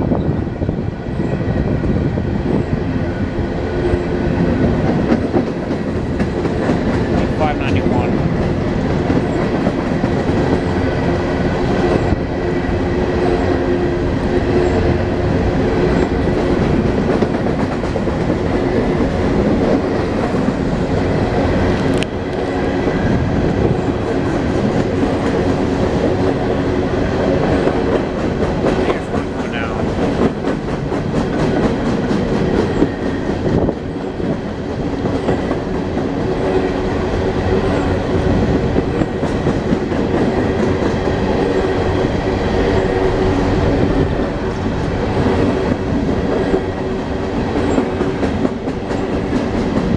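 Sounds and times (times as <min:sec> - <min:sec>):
train wheels rumbling: 0:00.0 - 0:49.9
clickety-clack over rail joints: 0:03.6 - 0:49.9.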